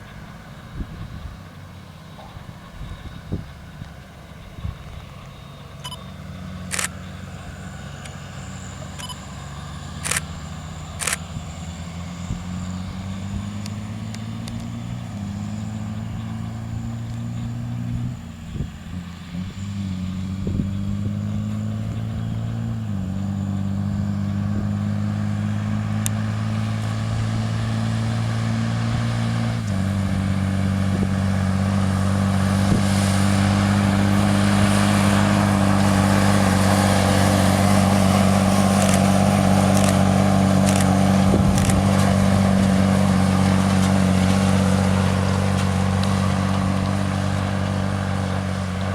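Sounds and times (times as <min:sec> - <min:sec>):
tractor diesel engine running: 0:00.0 - 0:48.9
tyre and road noise: 0:00.0 - 0:48.9.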